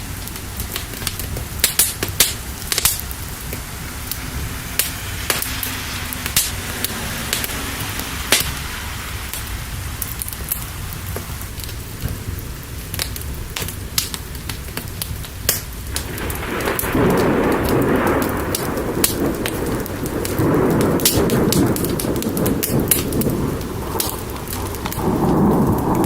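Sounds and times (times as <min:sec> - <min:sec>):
sharp crackles: 0:00.0 - 0:26.0
steady rain: 0:00.0 - 0:26.0
thunder rolling: 0:00.0 - 0:26.0.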